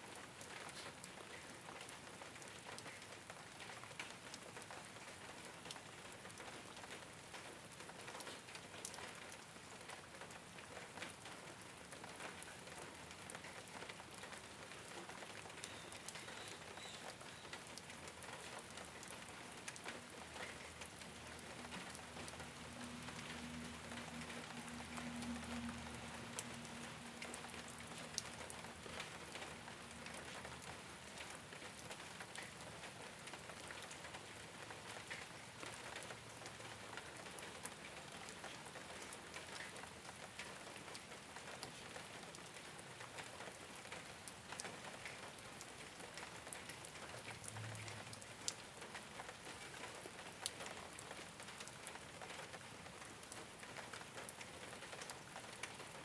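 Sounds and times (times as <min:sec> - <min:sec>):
rain on a rooftop: 0:00.0 - 0:56.0.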